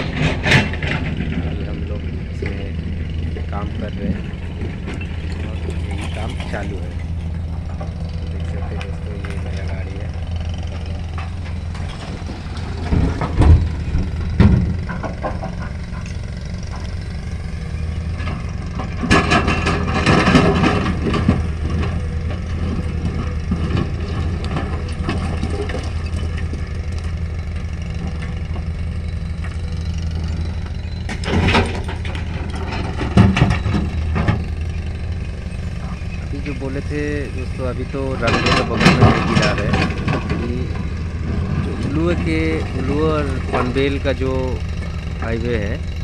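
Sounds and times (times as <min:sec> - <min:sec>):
diesel engines running: 0:00.0 - 0:46.0.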